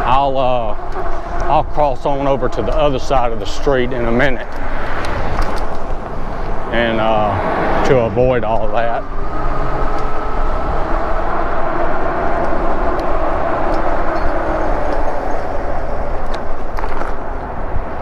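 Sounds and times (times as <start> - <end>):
bike tyre noise: 0.0 - 18.0
wind rumble: 0.0 - 18.0.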